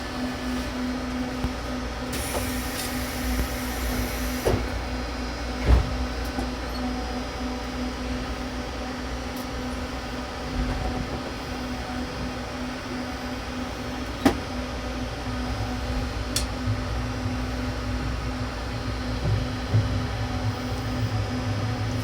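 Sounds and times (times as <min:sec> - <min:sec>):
train cabin rumble and hum: 0:00.0 - 0:22.0.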